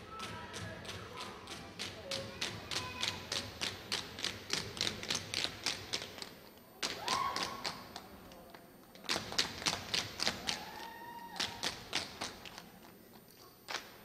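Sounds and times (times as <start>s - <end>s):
tap shoes on stage floor: 0.0s - 14.0s.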